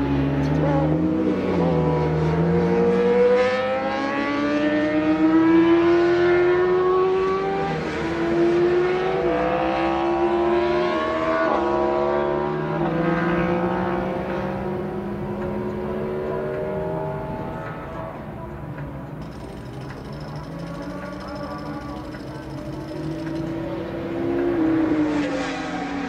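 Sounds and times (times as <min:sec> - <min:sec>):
race car engine revving: 0:00.0 - 0:18.4, 0:19.4 - 0:26.0.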